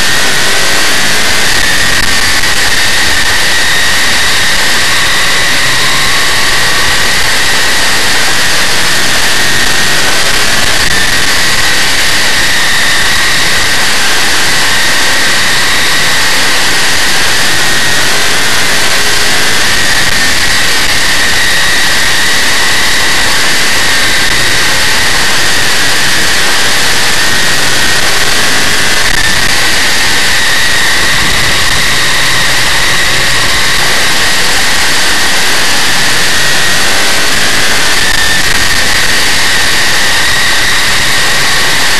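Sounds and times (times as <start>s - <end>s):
race car engine running hard: 0.0s - 41.9s.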